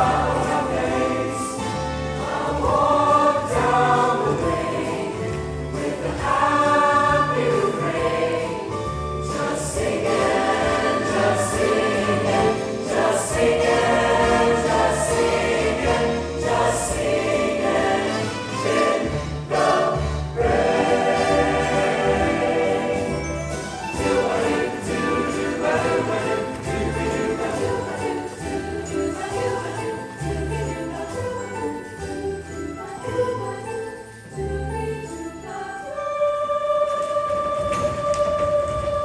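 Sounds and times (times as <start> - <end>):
choir singing in harmony: 0.0 - 39.0.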